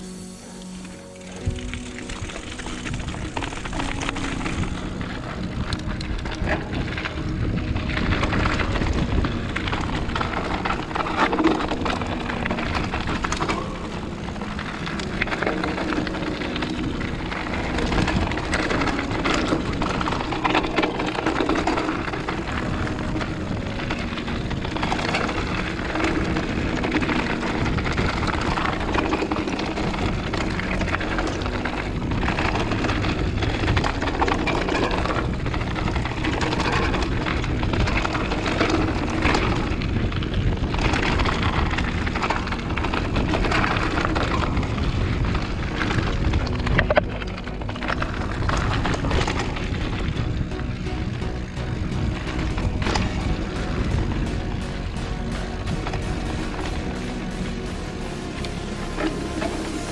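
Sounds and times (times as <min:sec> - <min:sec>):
bike tyres crunching on gravel: 0:00.0 - 0:59.9
wind rumble on microphone: 0:00.0 - 0:59.9
bike rattling over bumps: 0:01.2 - 0:59.9.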